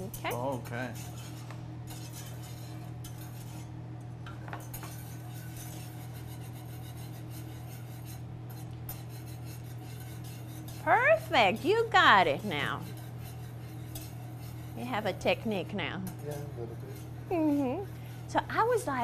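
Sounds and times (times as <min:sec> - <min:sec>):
whisk scraping metal saucepan: 0:00.0 - 0:03.8, 0:04.5 - 0:19.0
steady low hum: 0:00.0 - 0:19.0.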